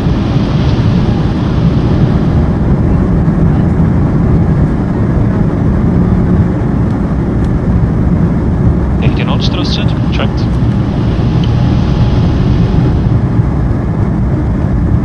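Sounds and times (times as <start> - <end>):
jet engines and wheels rumbling: 0.0 - 15.0.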